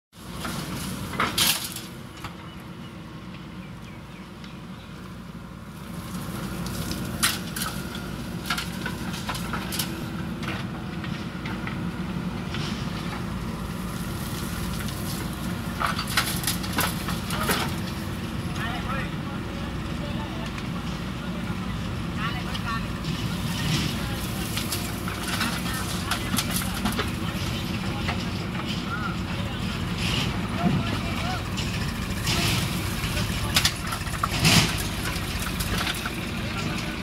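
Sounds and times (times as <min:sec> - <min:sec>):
diesel engine running: 0:00.1 - 0:37.0
stones clanking on metal trailer: 0:00.2 - 0:02.6, 0:05.9 - 0:19.1, 0:22.2 - 0:37.0.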